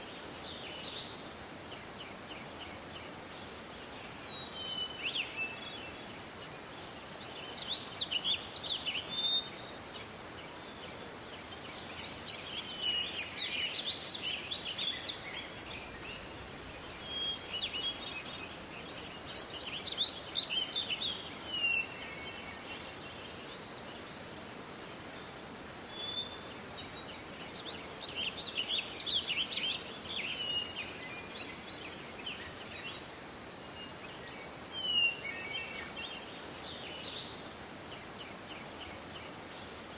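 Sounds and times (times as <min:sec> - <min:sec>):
low background hiss: 0:00.0 - 0:39.9
songbirds singing: 0:00.0 - 0:39.9.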